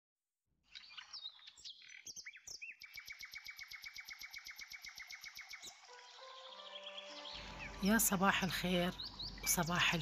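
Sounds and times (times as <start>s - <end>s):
bird chirping: 0.6s - 10.0s.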